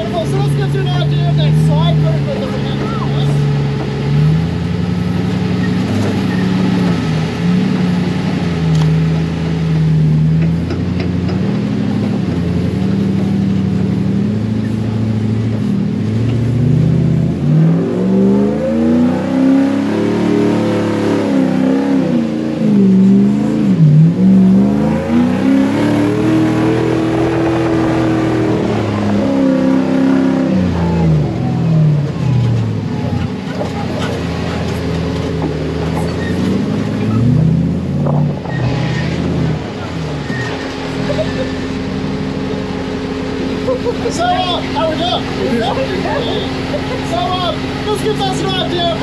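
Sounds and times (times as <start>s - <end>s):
buggy engine revving: 0.0s - 49.0s.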